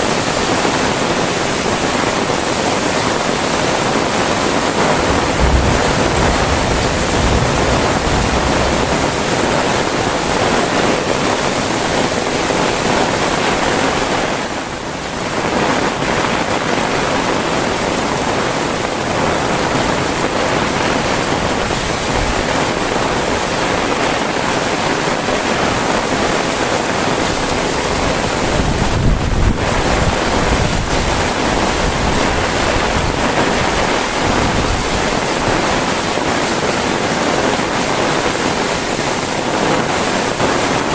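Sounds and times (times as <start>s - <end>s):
heavy rain: 0.0s - 40.9s
wind rumbling on microphone: 1.8s - 40.9s.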